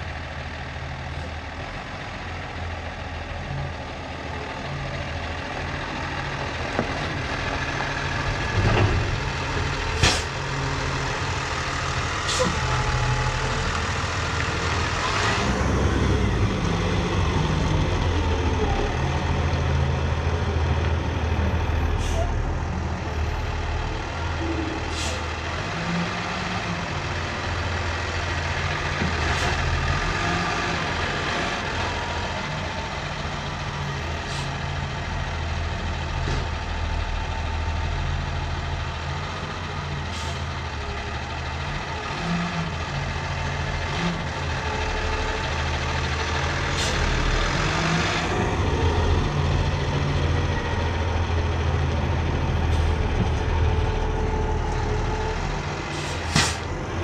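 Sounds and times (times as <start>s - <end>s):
heavy machine engine working: 0.2s - 57.0s.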